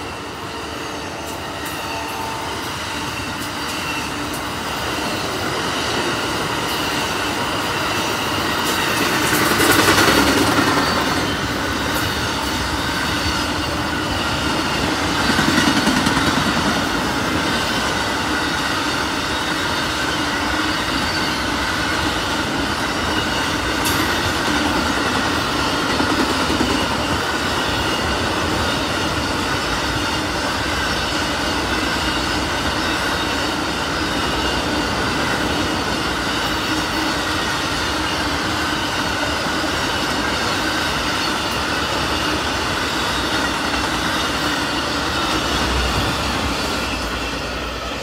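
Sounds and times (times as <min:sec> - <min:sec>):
steel wheels rumbling on rail: 0:00.0 - 0:48.0.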